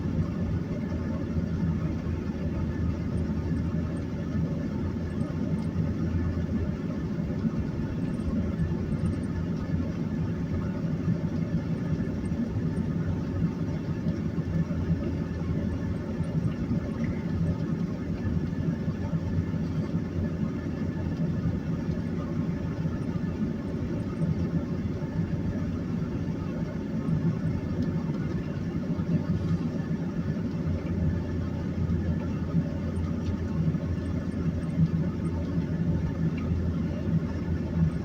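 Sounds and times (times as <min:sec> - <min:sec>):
engine and road rumble in cab: 0:00.0 - 0:38.0.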